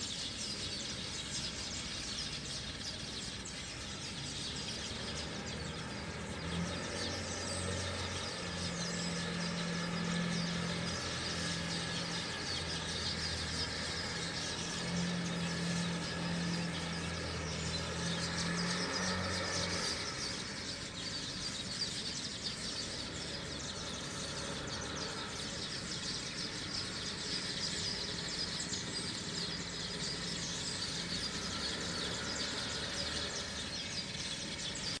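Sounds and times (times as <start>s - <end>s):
birds chirping in chorus: 0.0s - 35.0s.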